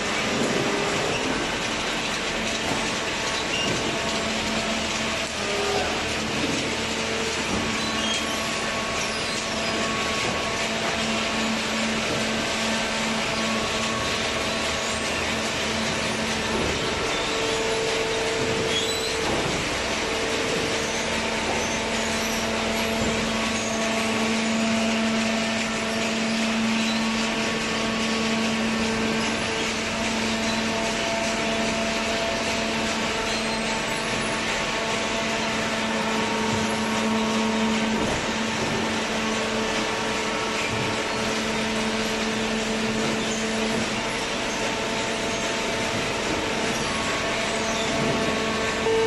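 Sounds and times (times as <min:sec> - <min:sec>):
baler machine hum and hiss: 0:00.0 - 0:49.0.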